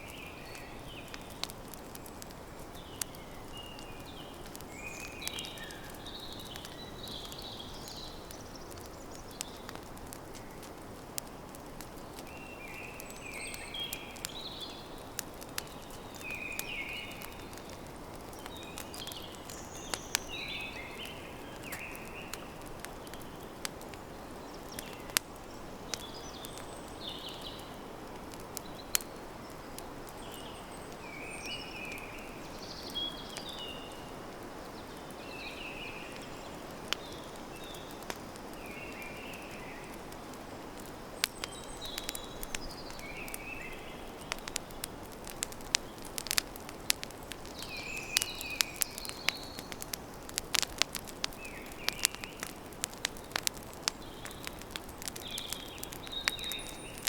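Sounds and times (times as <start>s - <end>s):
birds chirping: 0.0s - 10.7s, 12.0s - 27.8s, 28.6s - 40.1s, 40.7s - 57.0s
campfire crackling and popping: 0.0s - 57.0s.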